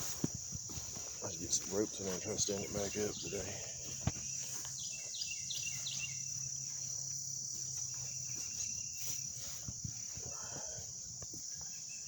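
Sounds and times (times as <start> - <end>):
crickets buzzing: 0.0 - 12.0.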